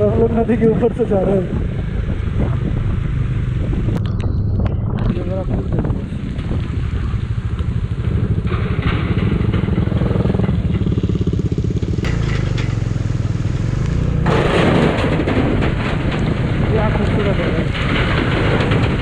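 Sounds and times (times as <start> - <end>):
motorcycle engine running: 0.0 - 19.0
loud rushing noise: 1.4 - 19.0.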